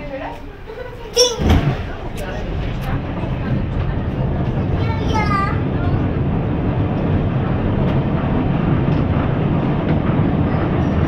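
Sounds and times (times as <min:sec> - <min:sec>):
tram rumble: 0:00.0 - 0:11.0.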